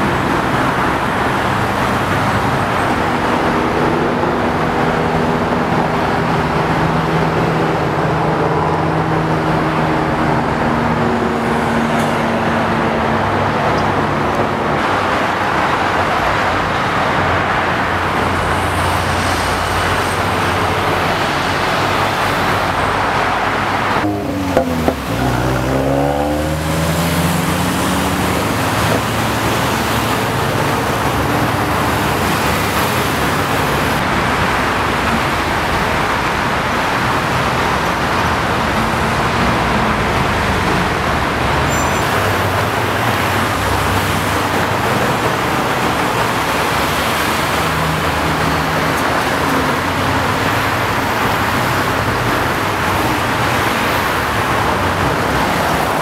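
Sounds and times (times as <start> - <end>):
freeway traffic noise: 0.0 - 56.0.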